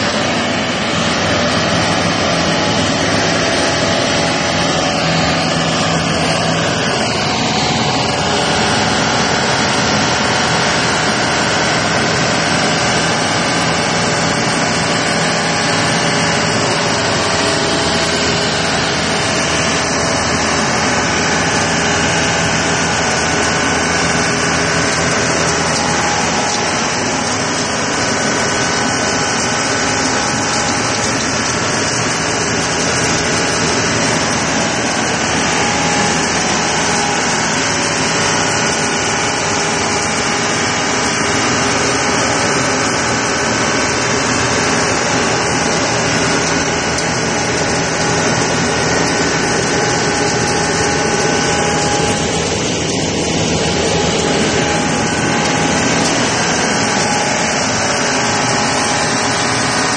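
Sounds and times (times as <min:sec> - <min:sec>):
road sweeper engine and fan: 0:00.0 - 0:59.9
steady machine tones: 0:00.0 - 0:59.9.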